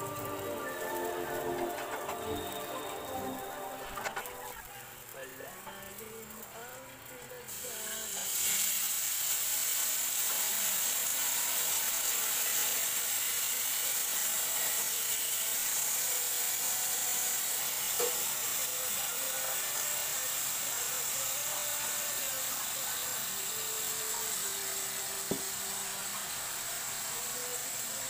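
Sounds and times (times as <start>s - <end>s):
water sizzling in hot pan: 0.0s - 28.0s.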